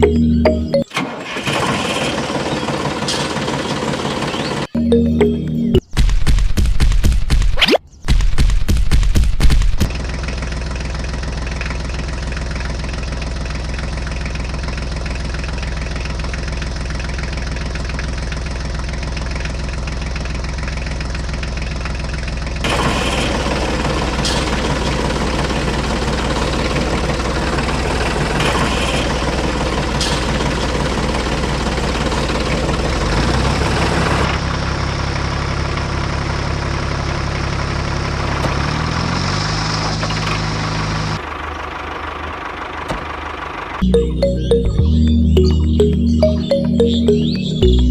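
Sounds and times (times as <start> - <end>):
engine idling and revving: 0.0 - 5.0, 9.6 - 44.0.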